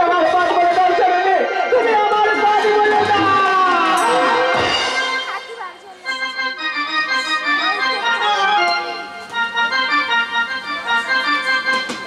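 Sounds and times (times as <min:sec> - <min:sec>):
organ melody: 0:00.0 - 0:12.0.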